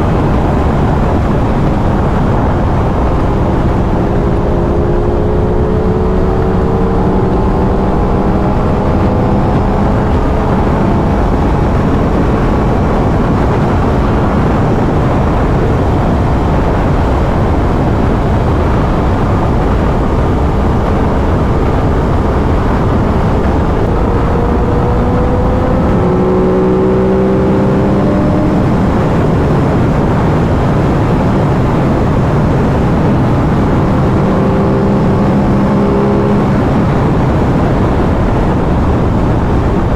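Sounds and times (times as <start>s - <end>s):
motorcycle engine at speed: 0.0s - 39.9s
wind noise: 0.0s - 39.9s.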